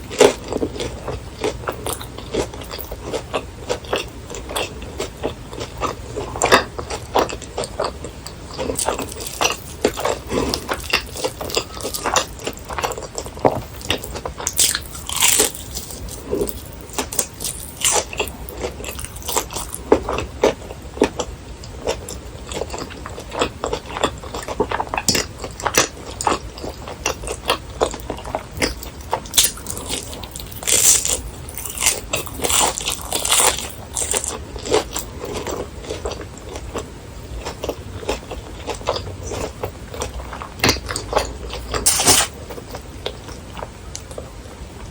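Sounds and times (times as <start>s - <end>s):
chewing crispy food: 0.0s - 44.9s.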